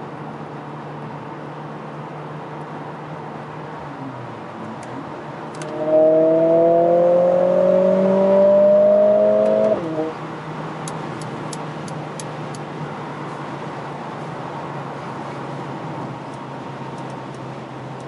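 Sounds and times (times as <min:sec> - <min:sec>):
car engine accelerating from inside: 0:02.8 - 0:17.9.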